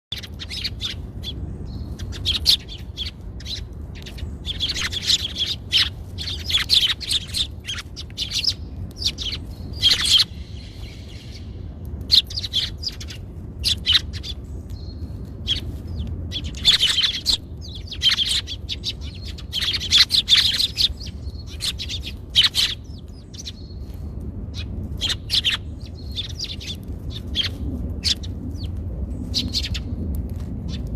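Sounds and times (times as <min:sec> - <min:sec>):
small birds chirping: 0:00.1 - 0:30.9
steady low hum: 0:00.1 - 0:30.9.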